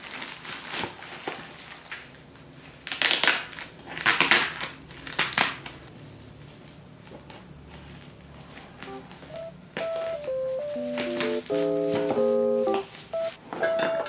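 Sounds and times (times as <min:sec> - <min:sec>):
bubble wrap crinkling: 0:00.0 - 0:09.3, 0:09.9 - 0:13.1.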